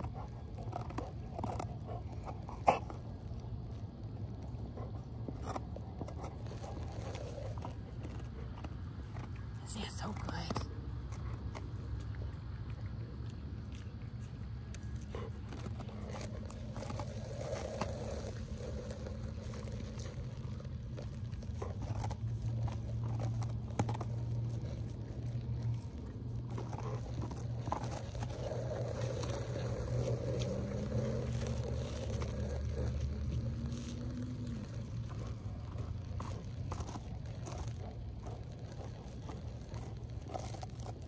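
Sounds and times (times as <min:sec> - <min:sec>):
dog gnawing and licking: 0:00.0 - 0:41.0
low background hum: 0:00.0 - 0:41.0
teeth scraping on rind: 0:00.0 - 0:41.0.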